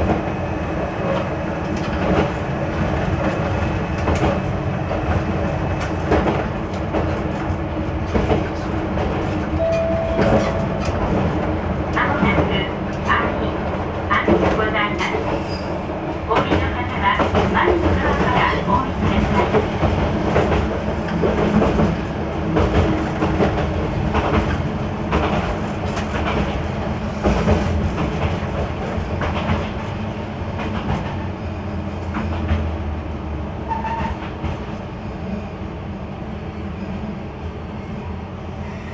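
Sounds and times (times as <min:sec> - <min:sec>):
diesel railcar engine rumble: 0:00.0 - 0:38.9.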